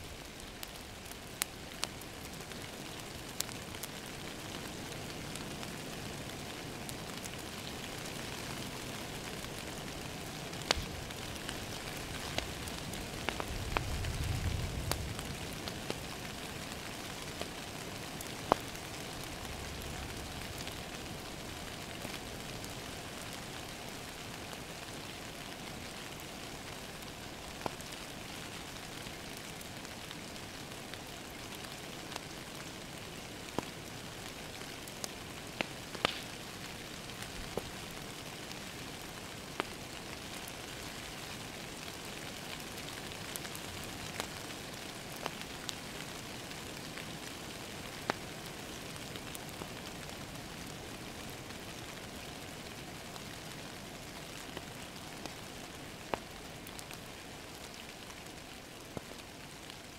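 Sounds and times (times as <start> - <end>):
rain hiss: 0.0 - 59.9
wood fire popping and crackling: 0.0 - 59.9.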